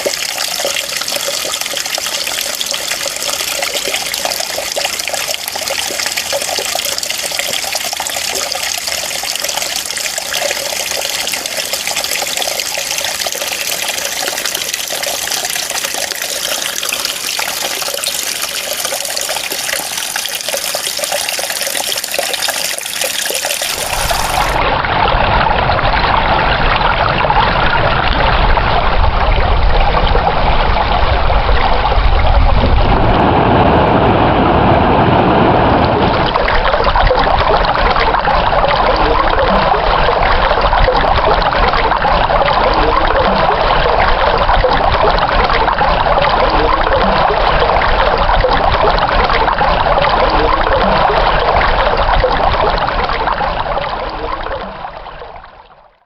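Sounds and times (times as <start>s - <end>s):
running water splashing: 0.0s - 26.7s, 36.0s - 55.4s.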